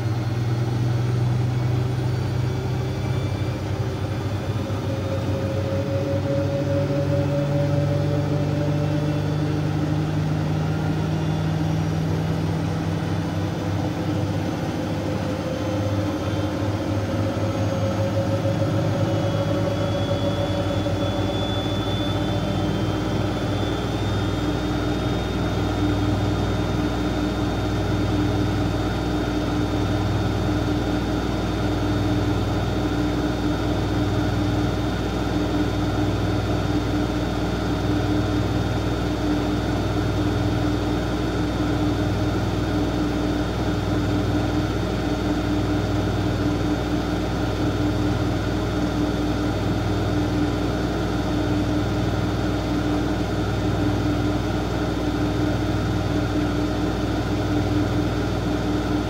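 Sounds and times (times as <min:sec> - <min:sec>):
washing machine hum: 0:00.0 - 0:59.0.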